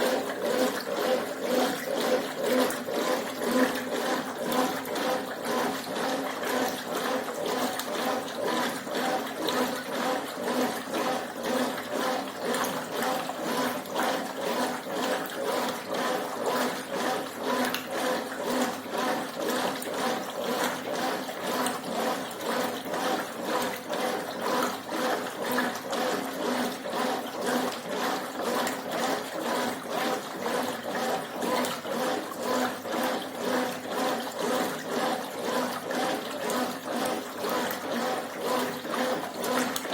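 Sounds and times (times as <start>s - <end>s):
washing machine sloshing: 0.0s - 39.9s.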